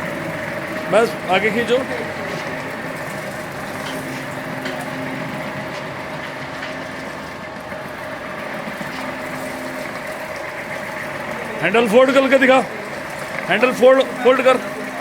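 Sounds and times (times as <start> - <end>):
floor grinding machine: 0.0 - 15.0.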